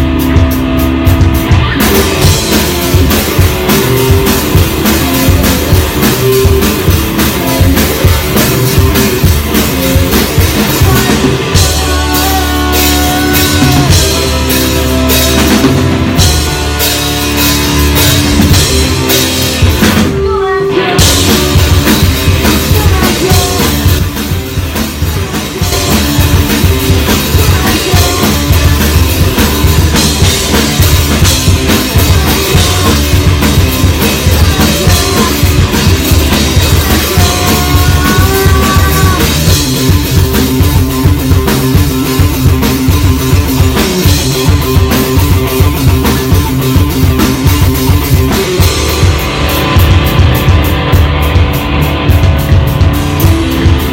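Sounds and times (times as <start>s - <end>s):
bass: 0.0s - 53.9s
drum kit beat: 0.0s - 53.9s
electric guitar: 0.0s - 53.9s.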